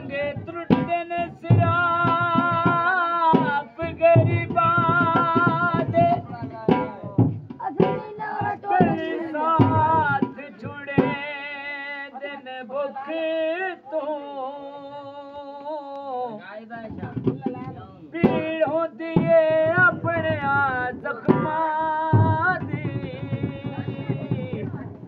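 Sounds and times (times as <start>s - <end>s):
dhol drum beats: 0.0s - 12.2s, 16.6s - 25.0s
man singing: 0.0s - 25.0s.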